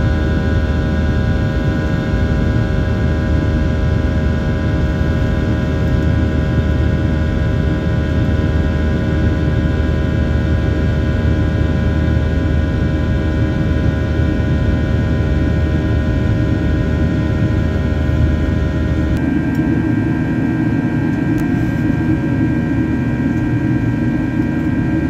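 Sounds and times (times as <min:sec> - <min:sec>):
airliner engine and airflow noise: 0:00.0 - 0:25.0.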